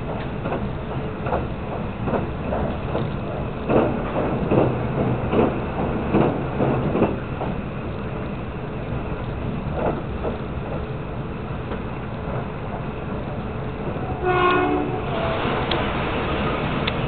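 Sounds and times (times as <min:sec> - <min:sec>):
train rumble: 0:00.0 - 0:17.0
wheels clacking over rail joints: 0:00.0 - 0:17.0.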